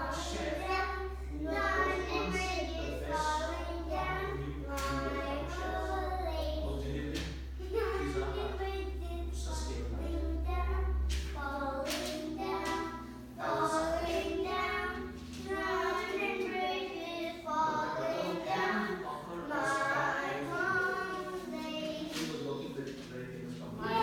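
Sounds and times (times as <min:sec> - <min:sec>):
low hum: 0:00.0 - 0:24.0
young child singing: 0:00.0 - 0:24.0.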